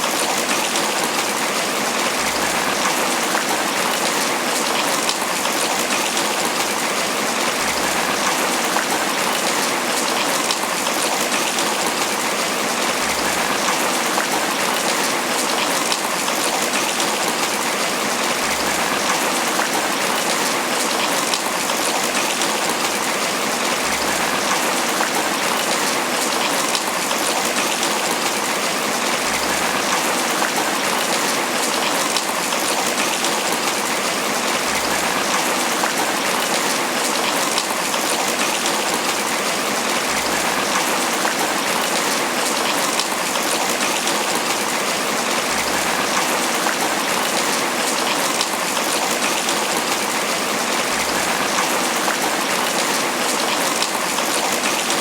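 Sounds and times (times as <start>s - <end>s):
rain pattering on leaves: 0.0s - 55.0s.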